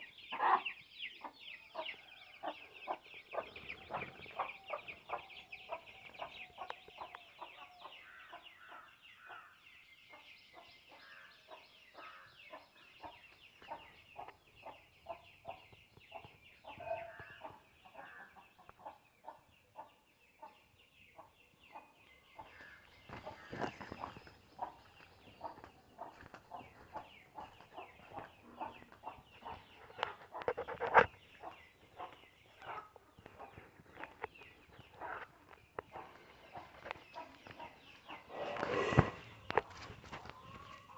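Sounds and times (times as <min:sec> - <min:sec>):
chickens clucking: 0:00.0 - 0:08.4, 0:11.5 - 0:40.9
high chirping background: 0:00.0 - 0:40.9.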